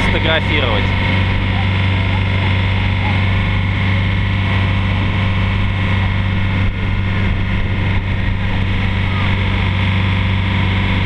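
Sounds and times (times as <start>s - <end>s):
boat engine drone: 0.0s - 11.0s
wind buffeting microphone: 0.0s - 11.0s.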